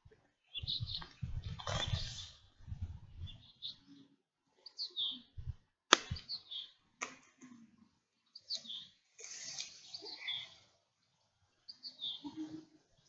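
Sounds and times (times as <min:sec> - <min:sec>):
small birds chirping: 0:00.4 - 0:06.8, 0:08.2 - 0:13.0.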